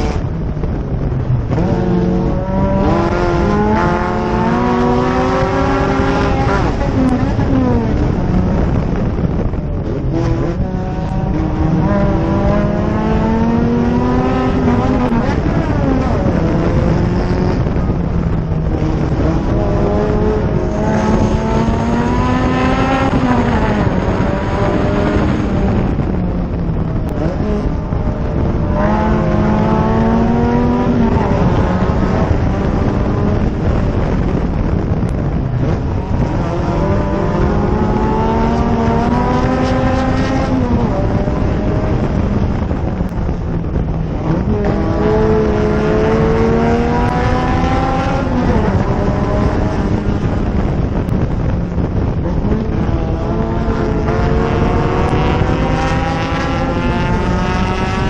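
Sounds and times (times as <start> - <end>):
race car engine accelerating: 0.0 - 58.0
wind and road noise: 0.0 - 58.0.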